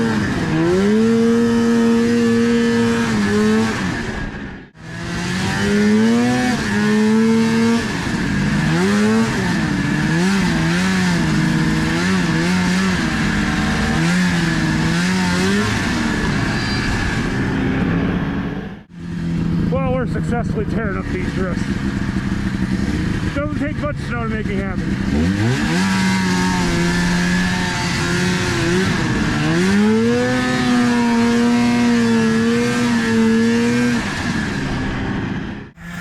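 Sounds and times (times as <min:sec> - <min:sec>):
snowmobile engine revving: 0:00.0 - 0:36.0.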